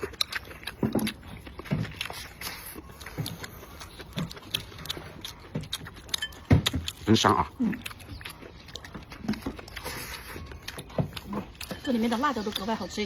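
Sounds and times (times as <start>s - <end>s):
chewing and mouth smacks: 0.0s - 13.0s.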